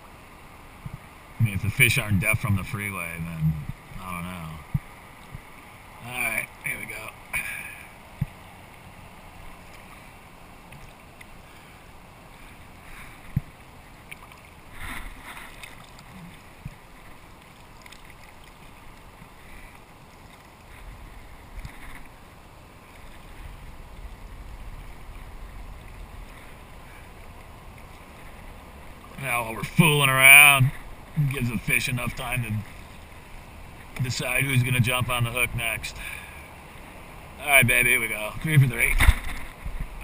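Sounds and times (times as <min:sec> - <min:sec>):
faint water lapping hull: 0:00.0 - 0:40.0
paddle stroking water: 0:00.0 - 0:40.0.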